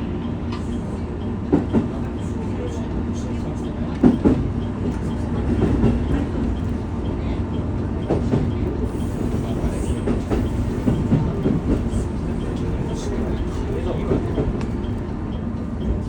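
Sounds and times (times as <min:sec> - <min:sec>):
railcar engine and wheels rumbling: 0:00.0 - 0:16.0.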